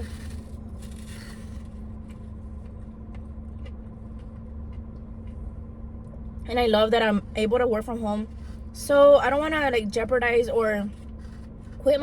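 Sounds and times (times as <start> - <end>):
vehicle cabin hum: 0.0 - 12.0.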